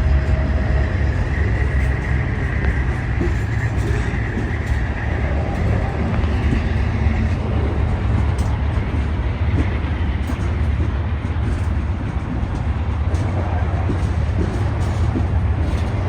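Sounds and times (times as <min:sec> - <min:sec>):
rail noise: 0:00.0 - 0:16.0
train passing: 0:00.0 - 0:16.0.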